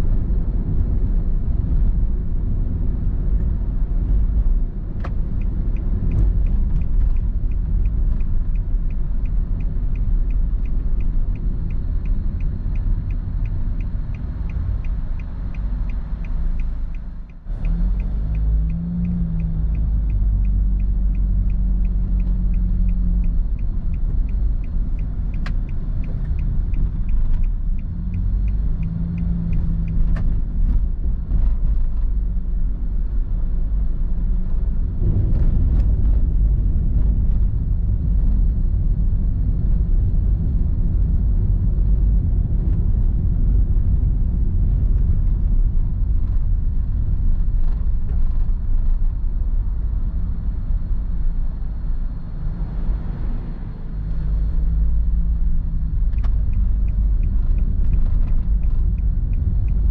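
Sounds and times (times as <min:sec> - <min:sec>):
road and engine rumble in car: 0:00.0 - 0:59.9
turn signal ticking: 0:00.2 - 0:59.9.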